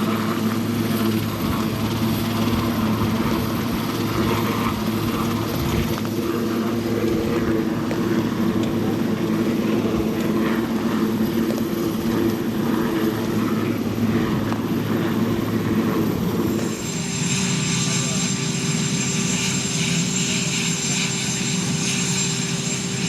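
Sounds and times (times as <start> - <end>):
helicopter engine drone: 0.0 - 23.0
high whine: 0.0 - 23.0.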